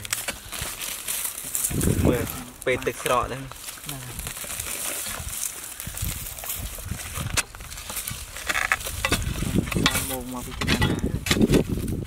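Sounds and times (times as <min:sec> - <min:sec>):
dry grass and twigs crackling: 0:00.0 - 0:12.0.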